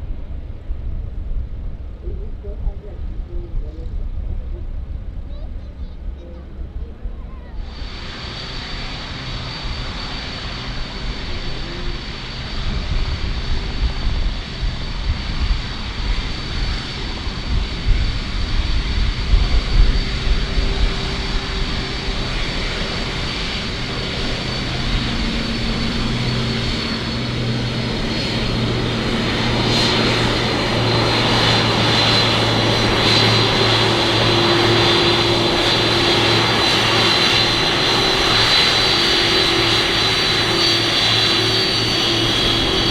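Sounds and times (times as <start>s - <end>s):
aircraft engines whining: 0.0s - 42.9s
low rumble: 0.0s - 42.9s.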